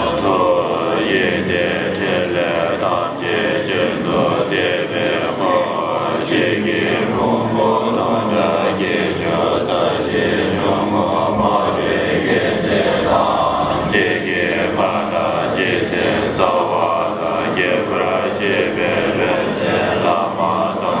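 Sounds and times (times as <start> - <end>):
voices chanting prayers: 0.0 - 21.0.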